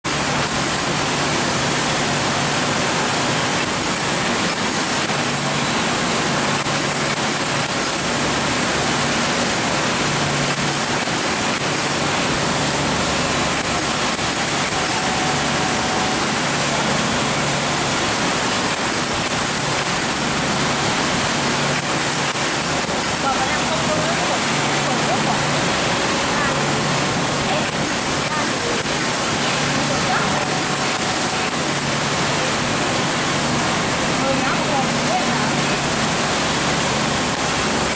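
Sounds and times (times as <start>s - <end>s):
factory machinery din: 0.1s - 37.9s
glue coating machine running: 0.1s - 37.9s.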